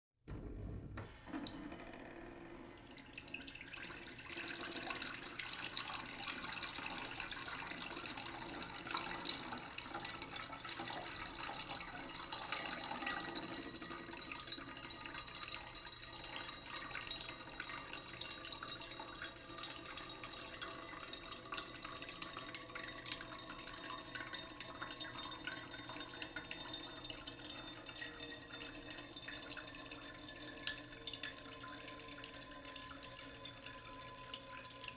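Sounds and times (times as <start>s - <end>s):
tap water running into sink: 0.3s - 34.9s.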